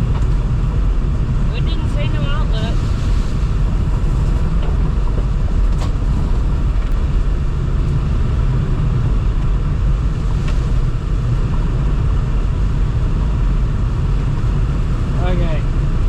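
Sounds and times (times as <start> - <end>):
car interior road rumble: 0.0 - 16.0.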